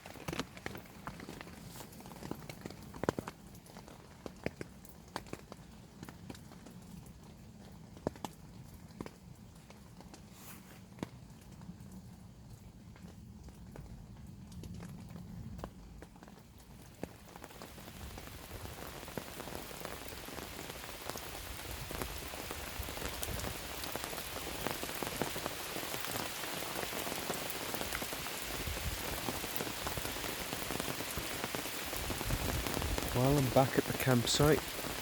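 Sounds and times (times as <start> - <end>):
rain falling: 0.0 - 35.0
raindrops ticking on surfaces: 0.0 - 35.0.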